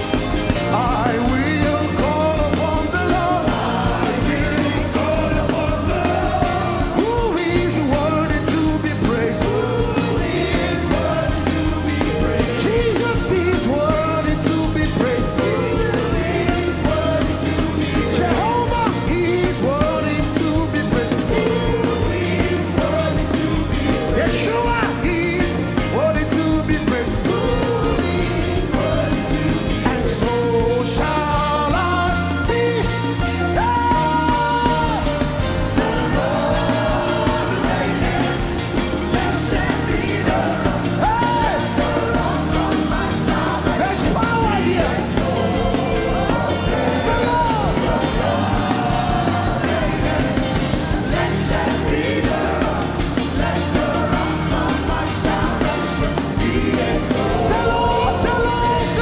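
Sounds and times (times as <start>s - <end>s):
worship band playing: 0.0s - 59.0s.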